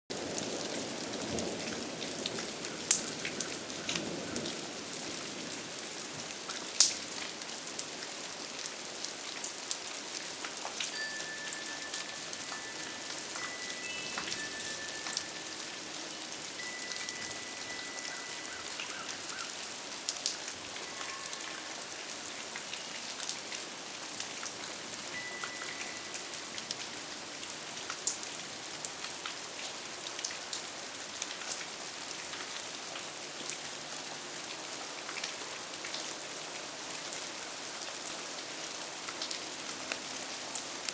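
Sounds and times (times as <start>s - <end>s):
rain and wet snow pattering: 0.1s - 40.9s.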